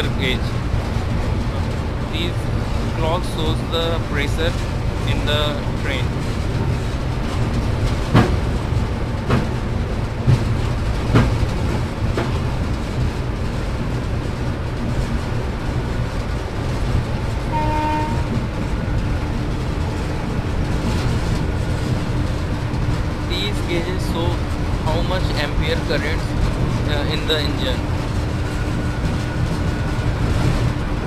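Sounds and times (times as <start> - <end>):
locomotive cab low rumble: 0.0 - 31.0
wheels clacking over rail joints: 0.0 - 31.0.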